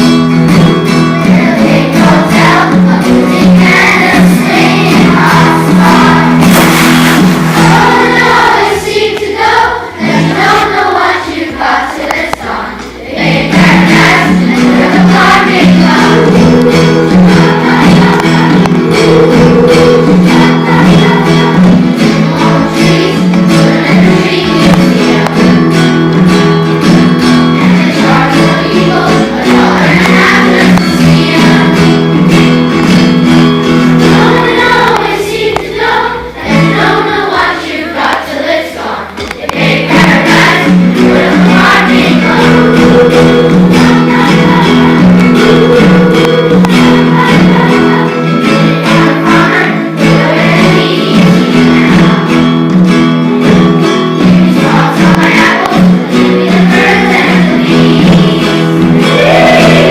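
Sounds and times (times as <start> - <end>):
group singing with instruments: 0.0 - 59.9.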